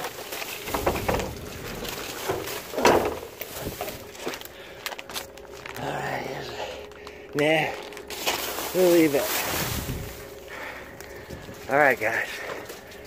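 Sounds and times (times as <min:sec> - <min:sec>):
trash rustling: 0:00.0 - 0:13.0.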